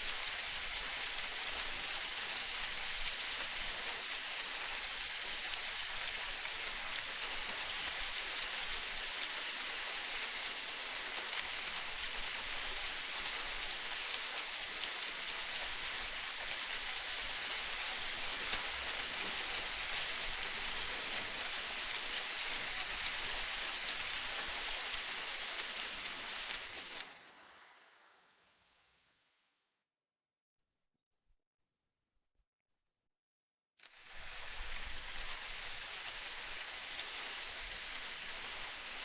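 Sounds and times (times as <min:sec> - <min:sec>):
steady hiss: 0:00.0 - 0:29.2, 0:33.9 - 0:39.0.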